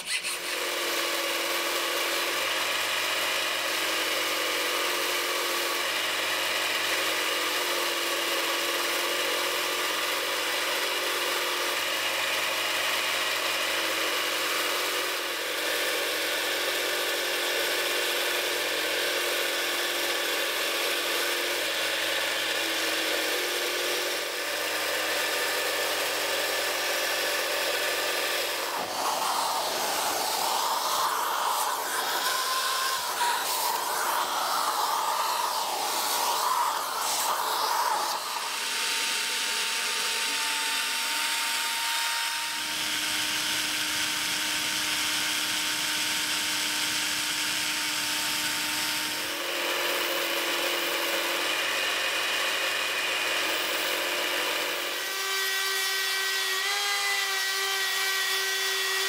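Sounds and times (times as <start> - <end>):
power tool grinding: 0.0 - 59.0
power tool motor whine: 0.0 - 59.0.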